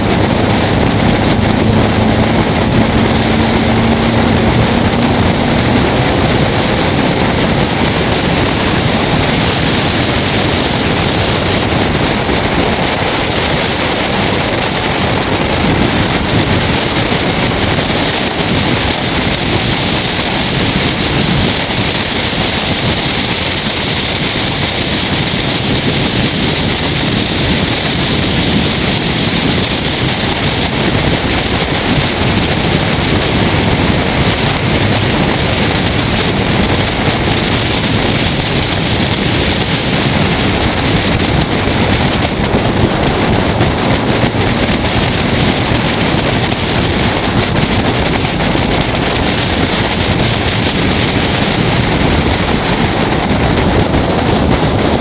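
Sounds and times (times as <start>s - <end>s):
race car engine: 0.0s - 55.0s
wind rush on microphone: 0.0s - 55.0s.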